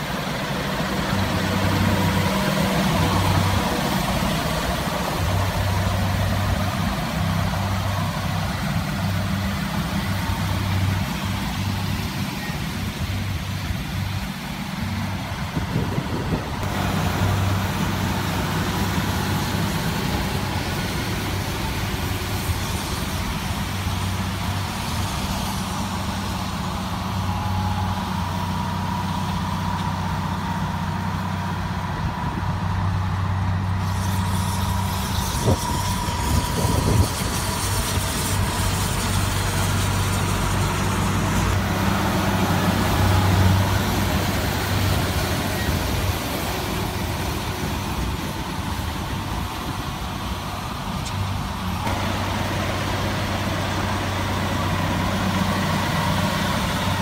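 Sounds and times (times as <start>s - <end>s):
second tractor working: 0.0s - 57.0s
tractor diesel engine running: 0.0s - 57.0s.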